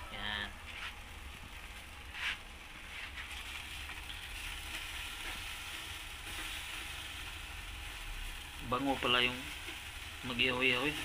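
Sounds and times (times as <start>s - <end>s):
meat sizzling on a grill: 0.8s - 11.0s.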